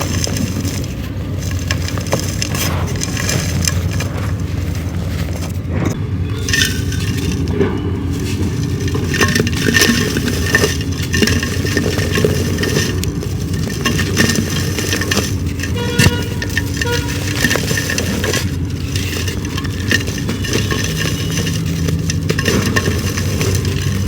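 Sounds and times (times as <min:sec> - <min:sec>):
dried clay crumbling: 0:00.0 - 0:24.0.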